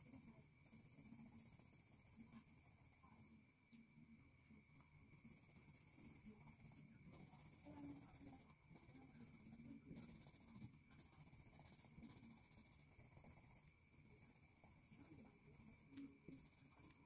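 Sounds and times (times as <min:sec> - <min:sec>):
pencil scratching on paper: 0:00.0 - 0:03.4, 0:04.8 - 0:17.0.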